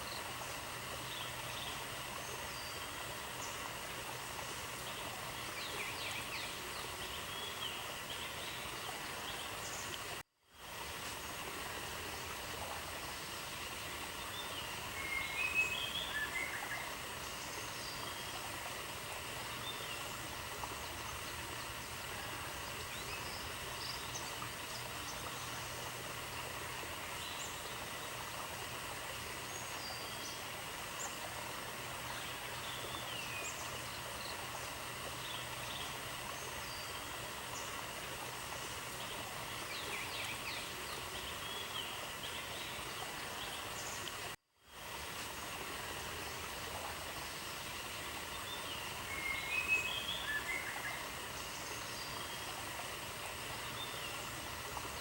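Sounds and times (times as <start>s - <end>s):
outdoor ambient hiss: 0.0s - 55.0s.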